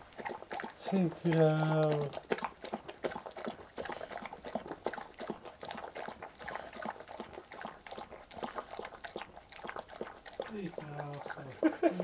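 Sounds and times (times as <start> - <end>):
dog eating with mouth smacks: 0.0 - 12.0.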